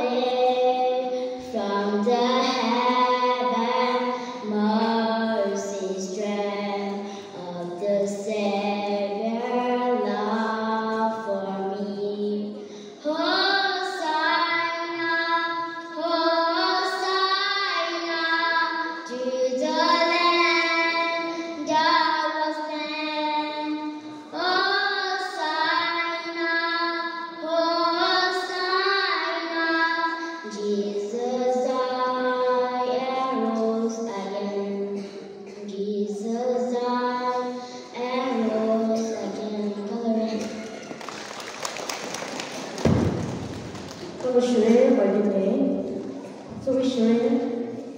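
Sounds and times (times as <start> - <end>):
girl singing into a microphone: 0.0 - 40.6.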